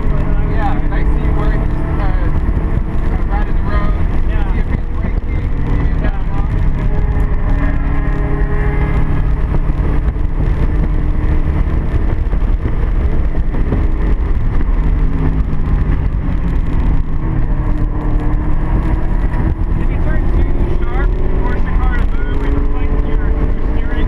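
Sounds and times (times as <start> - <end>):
car engine accelerating: 0.0 - 24.0
road and wind rumble: 0.0 - 24.0.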